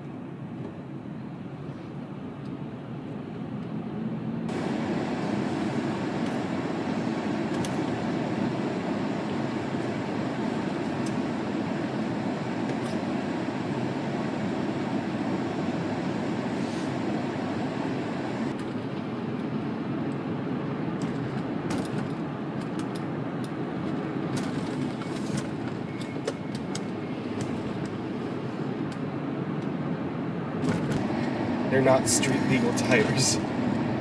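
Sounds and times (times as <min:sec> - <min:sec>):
road and tyre rumble in car: 0:00.0 - 0:34.0.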